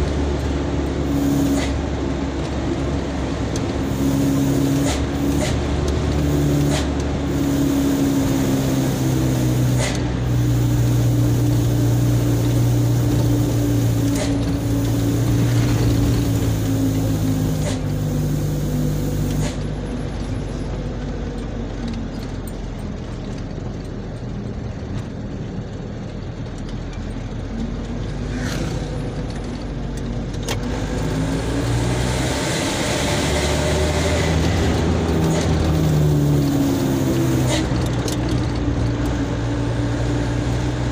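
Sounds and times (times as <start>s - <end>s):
truck engine driving: 0.0s - 40.9s.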